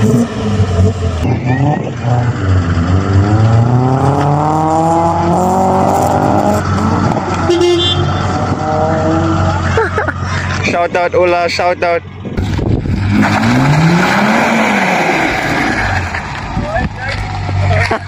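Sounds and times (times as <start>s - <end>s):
pickup engine revving: 0.0s - 18.0s.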